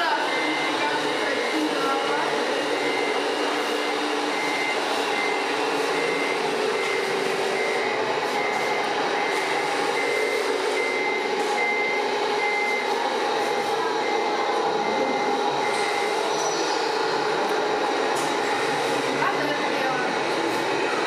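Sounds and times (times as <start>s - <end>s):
reversing beeper: 0.0s - 21.0s.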